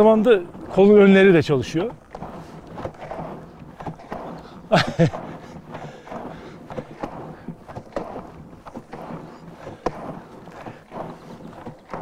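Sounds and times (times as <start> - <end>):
cream sloshing in wooden churn: 0.0 - 12.0.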